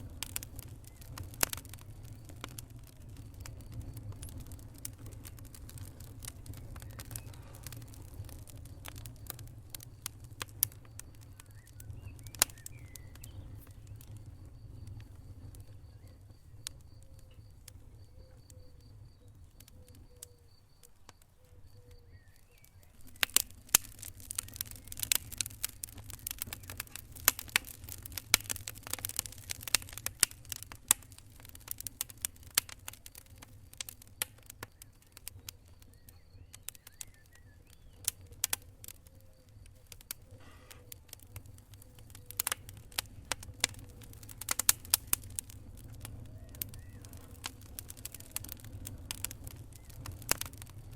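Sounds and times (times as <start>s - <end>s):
low rumble of flames: 0.0s - 50.9s
wood fire crackling and popping: 0.0s - 50.9s.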